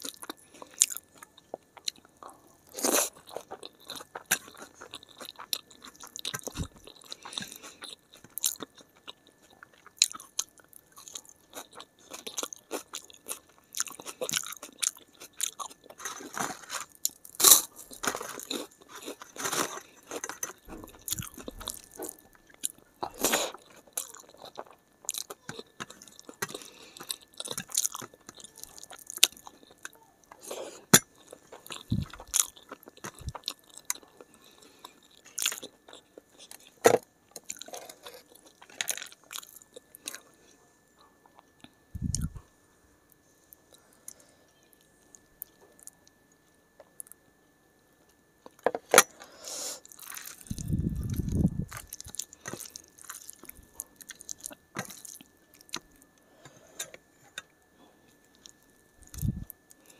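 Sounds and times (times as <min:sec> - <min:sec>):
close chewing with crisp crunches: 0:00.0 - 0:47.3, 0:48.0 - 0:59.9.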